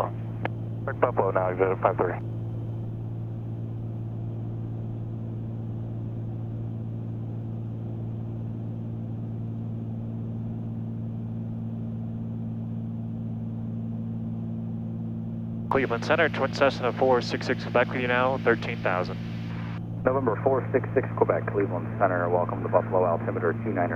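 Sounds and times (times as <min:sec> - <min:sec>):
aircraft cabin engine drone: 0:00.0 - 0:23.9.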